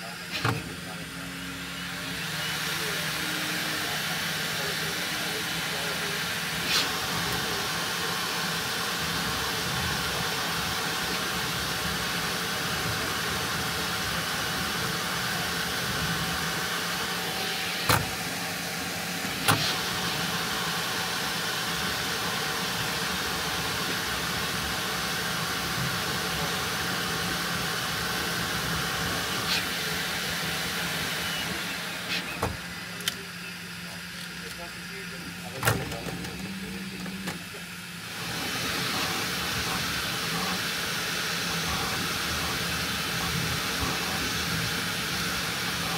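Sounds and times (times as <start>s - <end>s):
printer fans and motors whirring: 0.0s - 45.9s.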